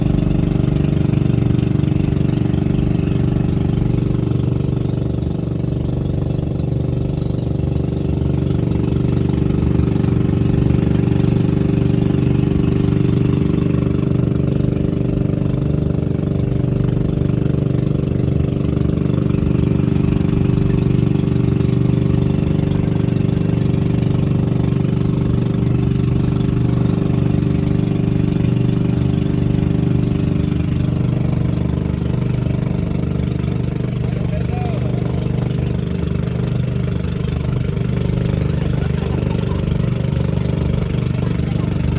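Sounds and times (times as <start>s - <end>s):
small engine running steadily: 0.0s - 41.9s.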